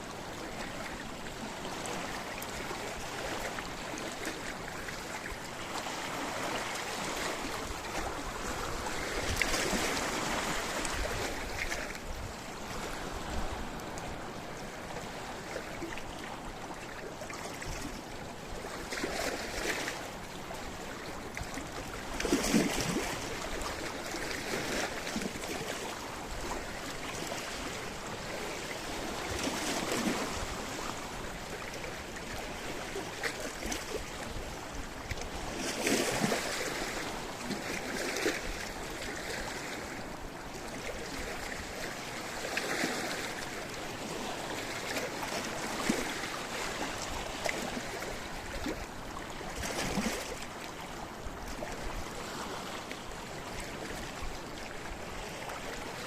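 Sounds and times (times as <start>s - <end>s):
waves breaking on rocky shore: 0.0s - 56.0s.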